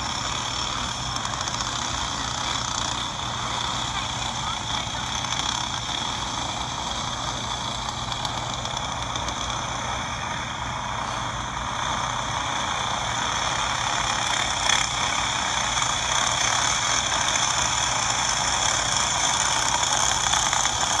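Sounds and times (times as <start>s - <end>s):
go-kart engines droning: 0.0s - 21.0s.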